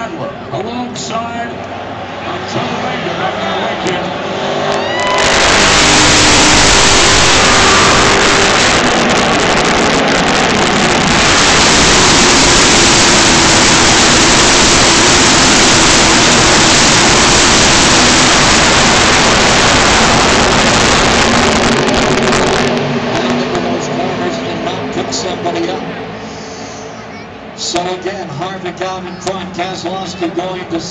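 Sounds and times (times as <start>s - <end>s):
racing car engines roaring past: 0.0s - 30.9s.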